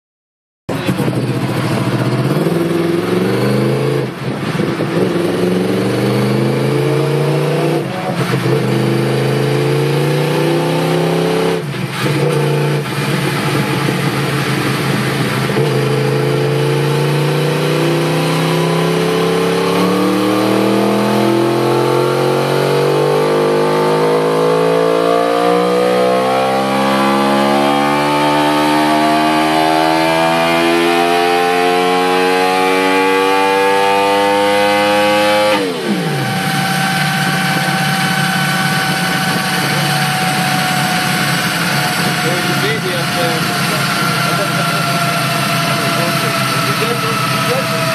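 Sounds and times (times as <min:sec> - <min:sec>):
motorcycle engine revving hard: 0:00.7 - 0:47.9.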